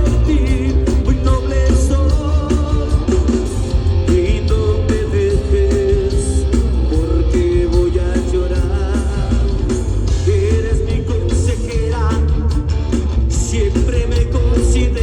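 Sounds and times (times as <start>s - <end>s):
person singing: 0.0s - 12.5s
live rock band playing: 0.0s - 15.0s.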